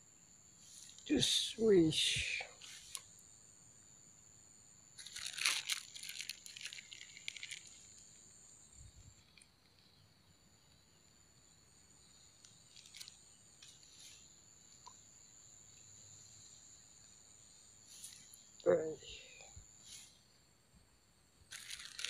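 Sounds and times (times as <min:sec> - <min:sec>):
insects high-pitched drone: 0:00.0 - 0:22.0.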